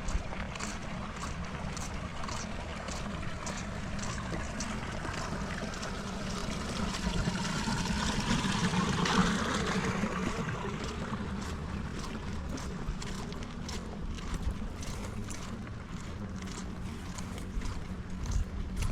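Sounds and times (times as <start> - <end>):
running water: 0.0 - 18.9.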